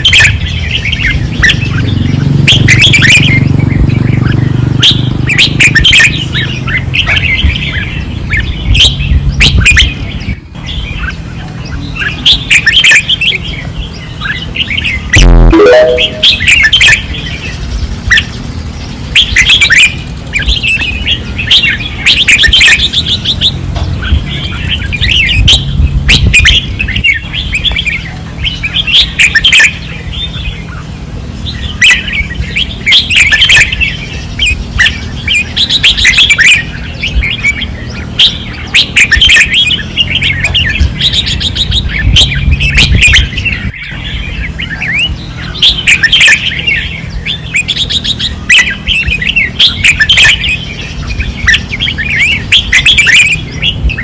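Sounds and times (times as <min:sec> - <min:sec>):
birds singing rapid chirps: 0:00.0 - 0:54.0.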